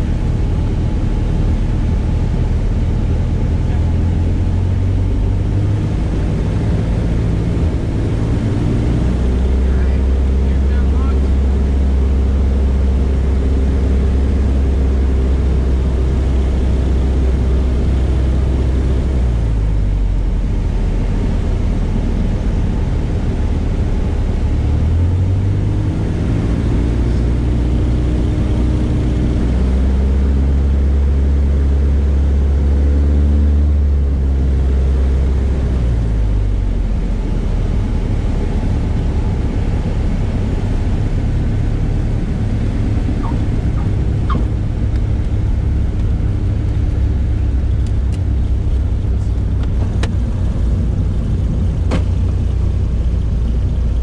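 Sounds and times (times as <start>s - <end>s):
propeller airplane engine in cockpit: 0.0s - 54.0s.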